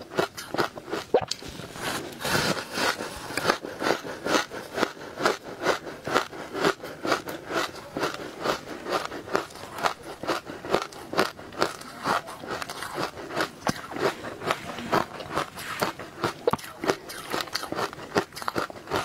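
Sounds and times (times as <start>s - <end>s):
person chewing crunchy ice: 0.0s - 19.0s.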